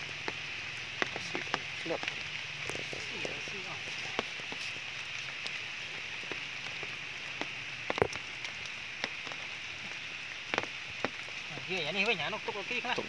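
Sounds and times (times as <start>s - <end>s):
steady rain falling: 0.0s - 13.0s
water drips: 0.0s - 13.0s.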